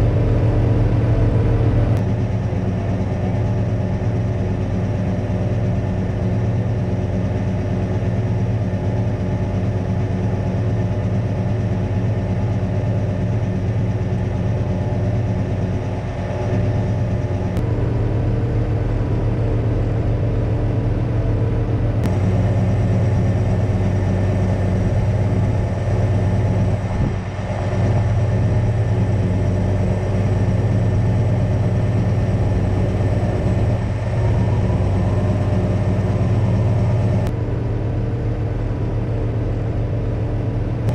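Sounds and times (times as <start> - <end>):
crane truck engine running: 0.0 - 40.9
low pulsing tone: 0.0 - 40.9.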